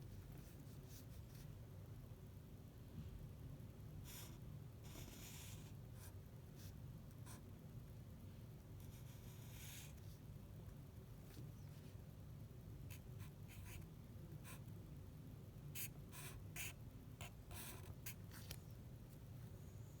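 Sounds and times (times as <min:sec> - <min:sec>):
faint low steady hum: 0:00.0 - 0:20.0.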